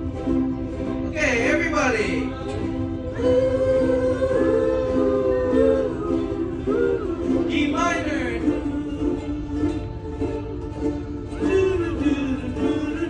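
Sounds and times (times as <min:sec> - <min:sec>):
ukuleles strumming chords: 0:00.0 - 0:13.0
people singing: 0:02.4 - 0:13.0.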